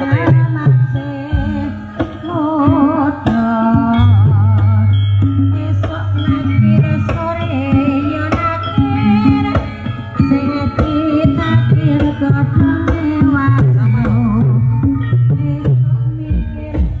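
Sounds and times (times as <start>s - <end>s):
hand-drum song with heavy bass: 0.0s - 17.0s.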